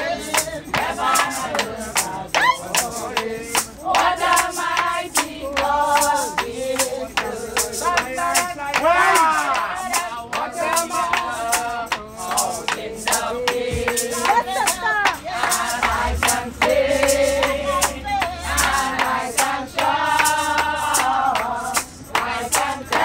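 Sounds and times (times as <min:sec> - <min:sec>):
group singing a hymn: 0:00.0 - 0:23.0
hand clapping in time: 0:00.0 - 0:23.0.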